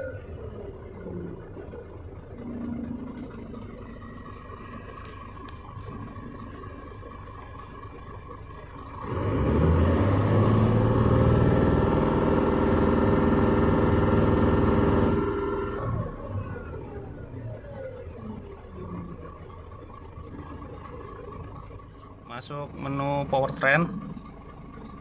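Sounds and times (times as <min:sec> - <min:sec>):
diesel truck engine idling and revving: 0:00.0 - 0:25.0.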